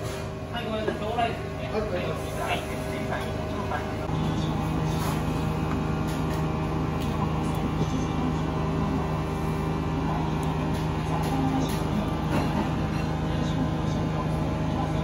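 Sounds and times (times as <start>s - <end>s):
low mechanical hum of equipment: 0.0s - 15.0s.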